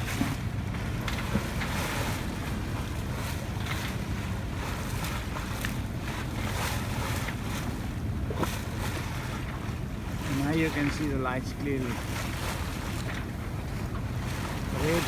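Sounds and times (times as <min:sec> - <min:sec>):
water washing along hull: 0:00.0 - 0:15.0.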